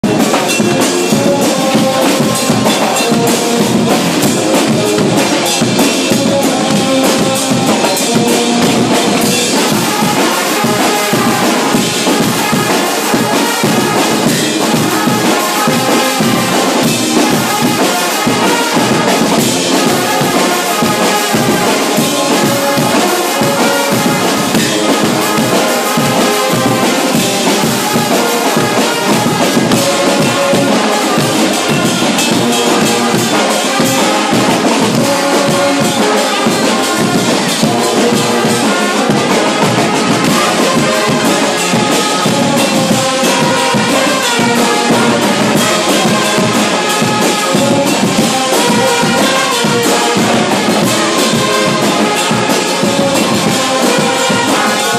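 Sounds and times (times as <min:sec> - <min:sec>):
brass band playing: 0:00.0 - 0:54.9
drum beat: 0:00.0 - 0:54.9.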